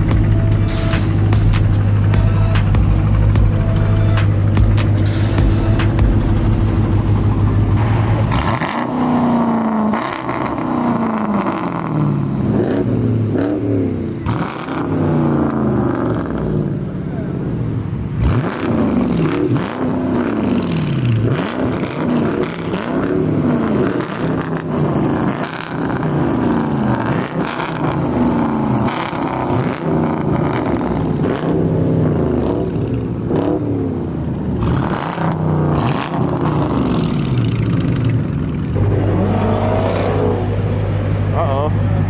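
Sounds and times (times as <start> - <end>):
loud engine exhaust revving: 0.0 - 42.0.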